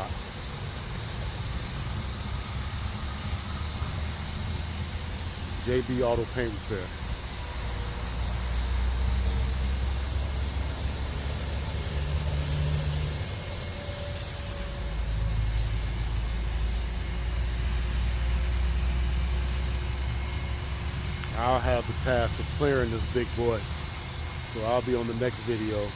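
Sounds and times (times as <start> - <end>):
paint spray gun hissing: 0.0 - 25.9
steady low hum: 0.0 - 25.9.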